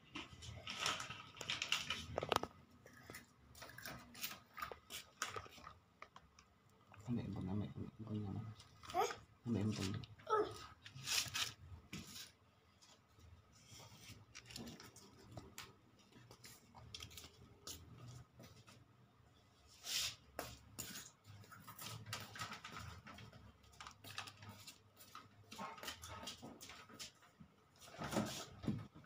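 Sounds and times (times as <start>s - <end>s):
faint clicks and rustles: 0.0s - 7.5s, 8.4s - 19.0s, 20.4s - 29.0s.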